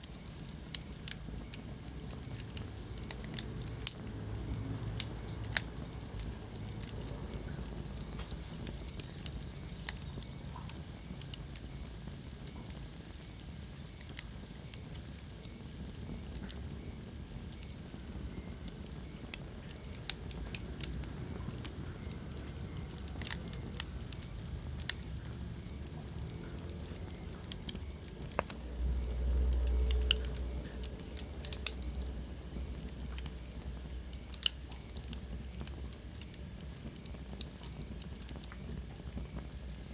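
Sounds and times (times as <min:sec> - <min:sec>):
fire hissing: 0:00.0 - 0:39.9
wood fire crackling and popping: 0:00.0 - 0:39.9.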